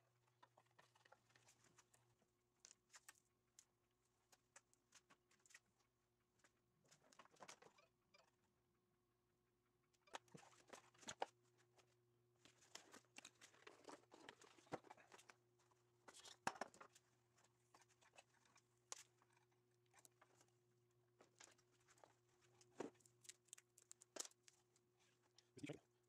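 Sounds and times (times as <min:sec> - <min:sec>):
small clicks and rustles of handling: 0:00.1 - 0:08.4, 0:09.9 - 0:26.0.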